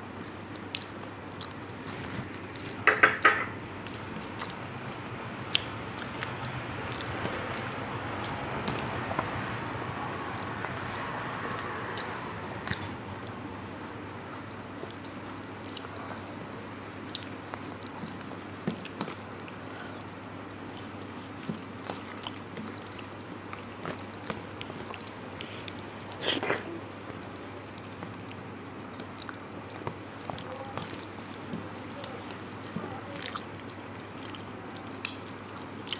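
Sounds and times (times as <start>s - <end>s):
chewing and mouth noises: 0.0s - 2.9s, 3.8s - 35.9s
steady low hum: 0.0s - 35.9s
fingers squishing rice: 3.8s - 35.9s.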